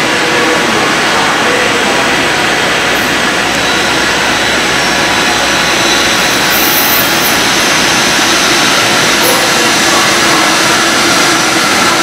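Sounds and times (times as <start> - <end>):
electric locomotive approaching: 0.0 - 12.0.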